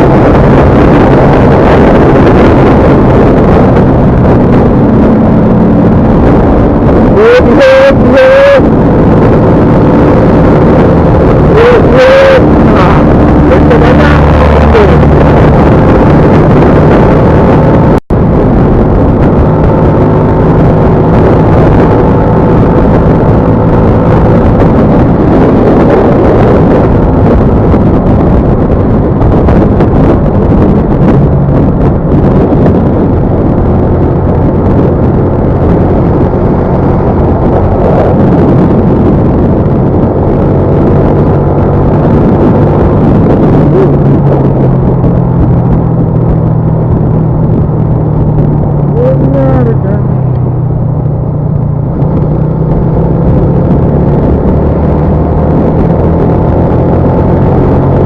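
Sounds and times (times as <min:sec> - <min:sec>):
road and wind noise: 0:00.0 - 0:58.0
vehicle engine running: 0:00.0 - 0:58.0.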